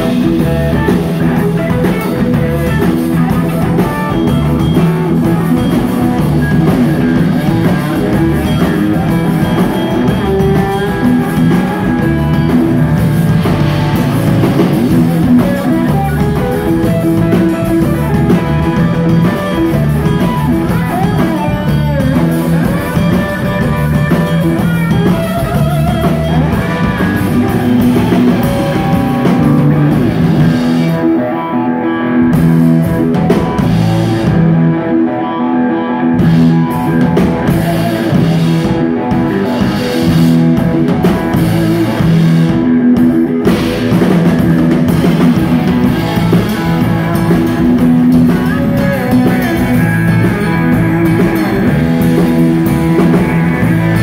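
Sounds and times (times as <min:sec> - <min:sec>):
drum kit groove: 0:00.0 - 0:35.1, 0:36.1 - 0:54.0
driving bass: 0:00.0 - 0:54.0
electric slide guitar lead: 0:00.0 - 0:54.0
instrumental rock band playing: 0:00.0 - 0:54.0.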